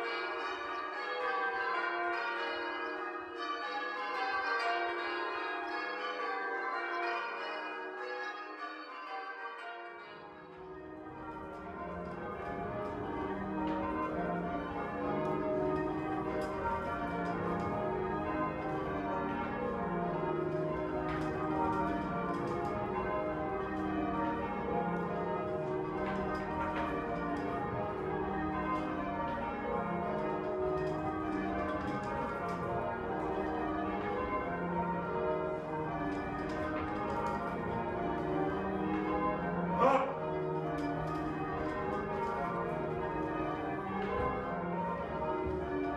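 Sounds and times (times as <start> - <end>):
church bells change ringing: 0.0 - 45.9.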